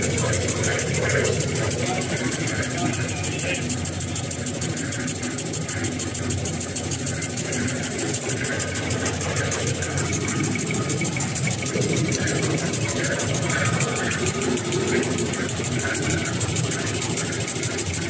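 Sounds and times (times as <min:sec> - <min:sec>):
machine drone with rhythmic clatter: 0:00.0 - 0:18.0.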